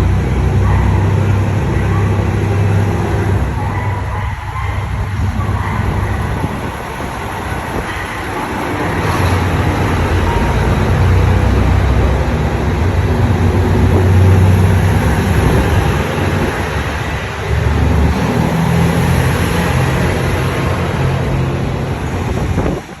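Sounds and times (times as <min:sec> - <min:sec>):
diesel train engines droning: 0:00.0 - 0:23.0.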